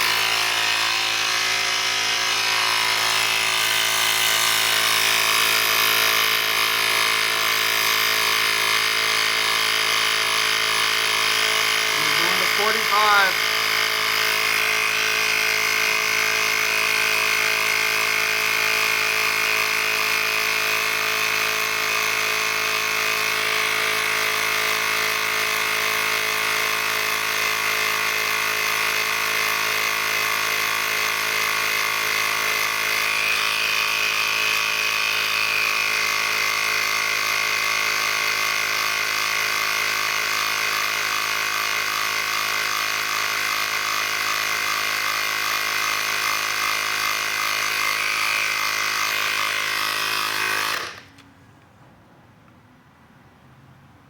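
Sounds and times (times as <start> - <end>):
electric air pump humming: 0.0 - 51.3.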